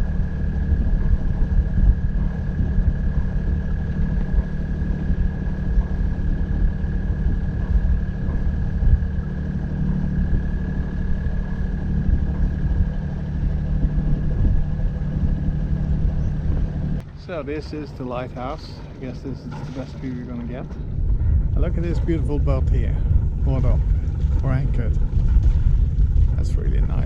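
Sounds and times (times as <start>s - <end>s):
boat engine droning: 0.0s - 27.0s
thin steady whine: 0.0s - 27.0s.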